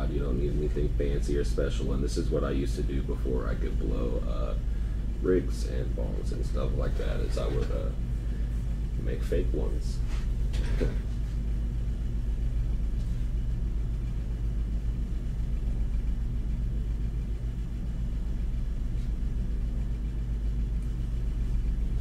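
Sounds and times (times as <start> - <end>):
equipment rumbling and humming: 0.0 - 22.0.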